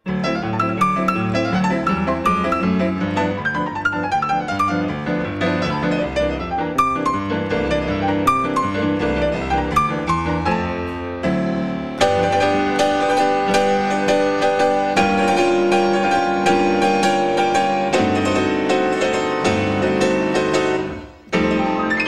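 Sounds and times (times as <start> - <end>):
instrumental piano music: 0.0 - 22.0.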